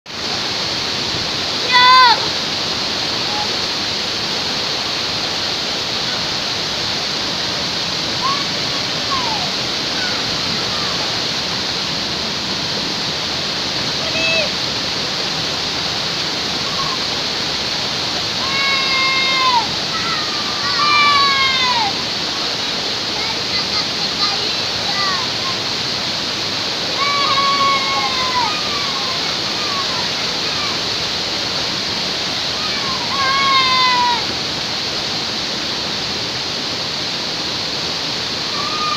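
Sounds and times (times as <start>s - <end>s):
waterfall crashing into pool: 0.1s - 38.9s.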